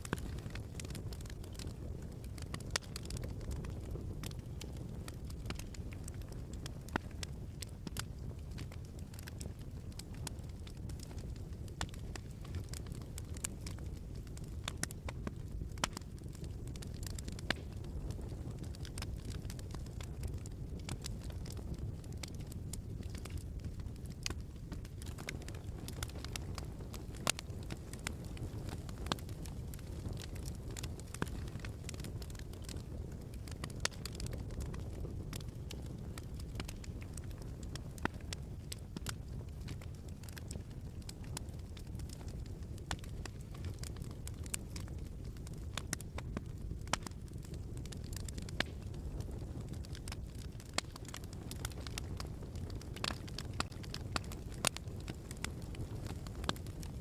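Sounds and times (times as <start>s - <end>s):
fire pops and snaps: 0.0s - 57.0s
low rumble of flames: 0.0s - 57.0s.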